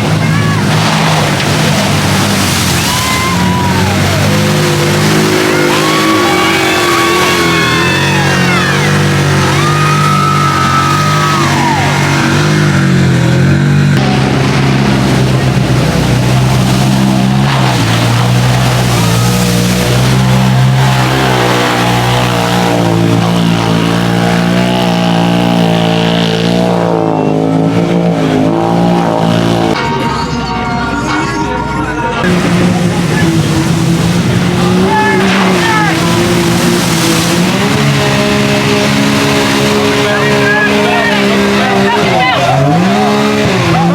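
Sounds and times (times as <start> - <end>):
off-road vehicle engines revving: 0.0 - 30.0, 30.6 - 43.9.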